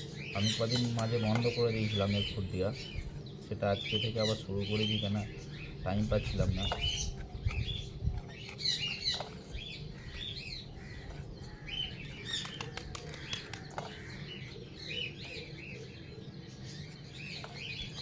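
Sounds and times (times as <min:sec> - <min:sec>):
low steady hum: 0:00.0 - 0:18.0
small birds chirping: 0:00.0 - 0:18.0.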